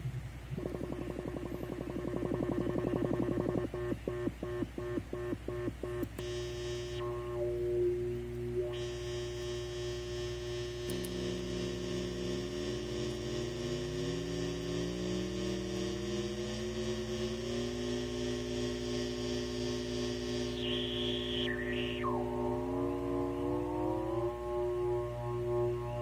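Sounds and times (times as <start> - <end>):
buzzy synthesizer drone tones: 0.0 - 26.0.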